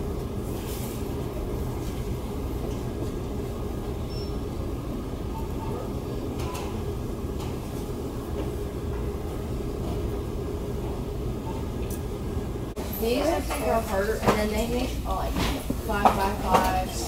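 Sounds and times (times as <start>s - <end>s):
steady low rumble: 0.0s - 16.5s.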